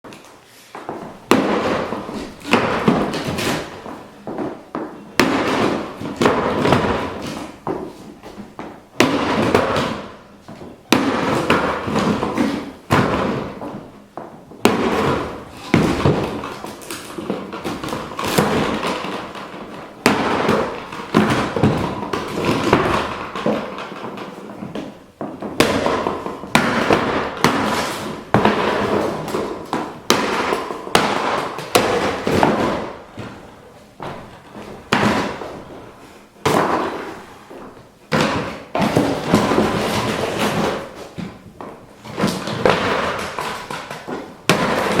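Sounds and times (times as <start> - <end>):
boxes crashing: 0.8 - 45.0.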